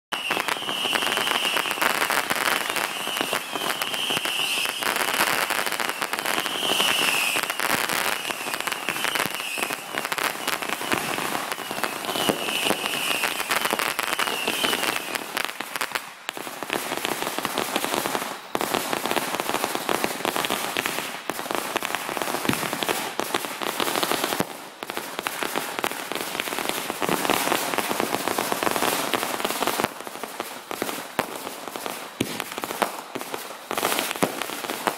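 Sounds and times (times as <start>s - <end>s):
firecrackers crackling: 0.1s - 34.9s.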